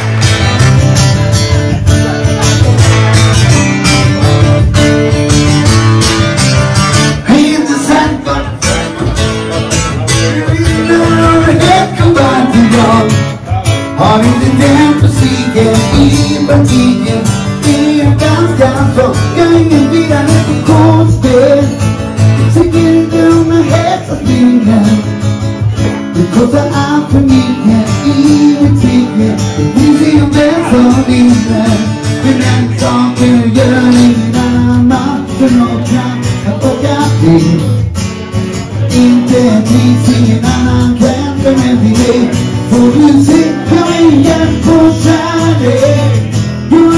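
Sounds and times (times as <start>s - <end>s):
acoustic guitar strumming: 0.0s - 46.9s
men singing: 7.0s - 25.2s, 25.8s - 37.8s, 38.7s - 46.9s.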